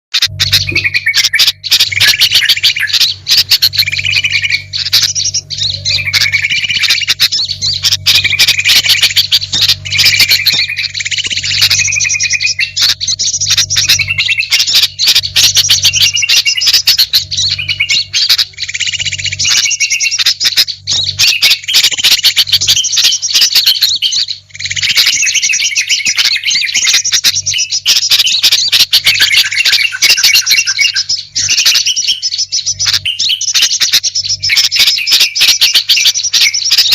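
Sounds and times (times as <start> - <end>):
songbirds chirping and chattering: 0.1 - 36.9
steady low hum: 0.2 - 36.9.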